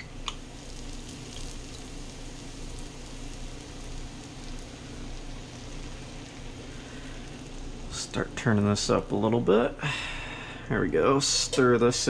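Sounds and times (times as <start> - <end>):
beer foaming in hot butter: 0.0 - 12.0.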